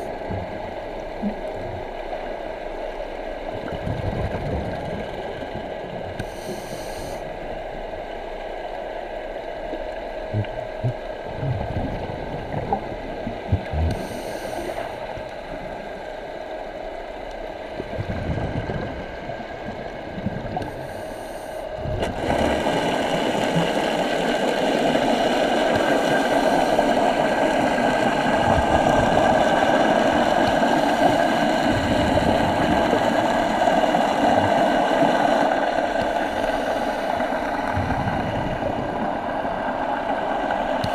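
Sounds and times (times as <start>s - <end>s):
boat motor drone underwater: 0.0s - 40.9s.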